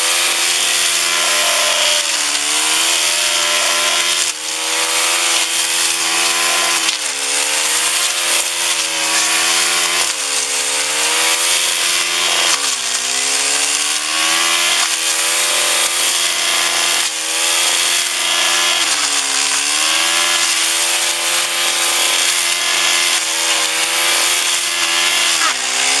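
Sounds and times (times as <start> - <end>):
brushcutter engine cutting brush: 0.0 - 26.0.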